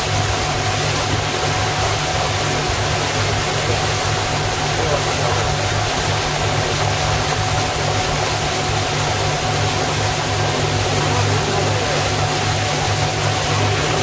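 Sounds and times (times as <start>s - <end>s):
boat engine droning: 0.0s - 14.0s
rush of water and wind: 0.0s - 14.0s.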